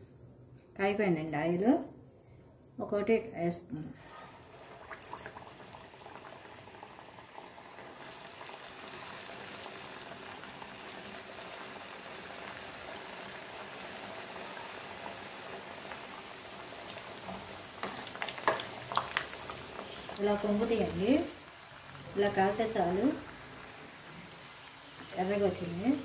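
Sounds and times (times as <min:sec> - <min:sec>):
dough deep-frying in hot oil: 0:04.0 - 0:26.0.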